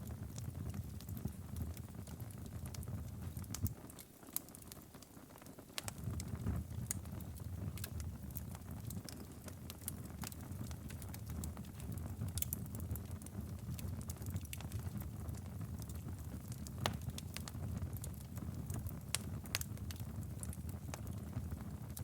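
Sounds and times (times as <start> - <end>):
low rumble of flames: 0.0 - 5.1, 5.8 - 22.0
wood fire crackling: 0.0 - 22.0
sharp pops and snaps: 2.7 - 21.2.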